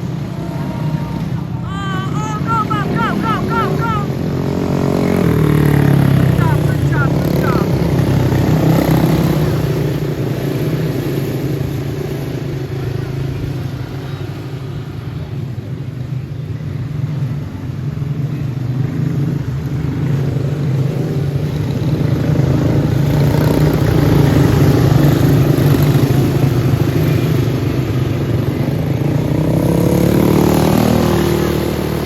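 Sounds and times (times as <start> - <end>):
go-kart engines racing: 0.0 - 32.0.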